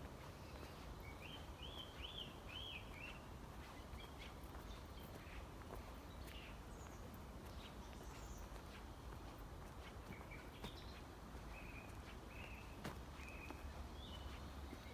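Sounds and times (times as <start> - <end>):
songbird singing: 0.1 - 8.8, 9.9 - 14.9.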